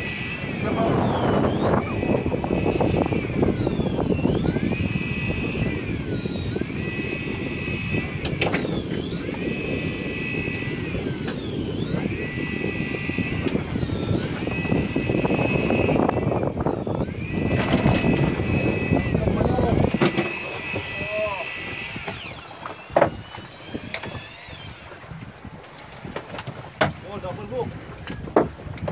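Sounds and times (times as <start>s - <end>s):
high whine: 0.0s - 25.7s
boat engine running: 0.0s - 28.9s
water noise: 0.0s - 28.9s
wind: 0.0s - 28.9s.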